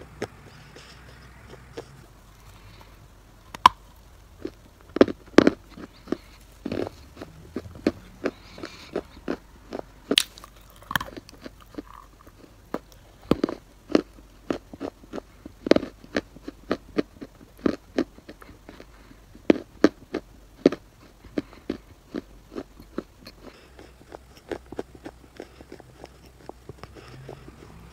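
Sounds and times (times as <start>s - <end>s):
crunchy chewing: 0.0s - 27.9s.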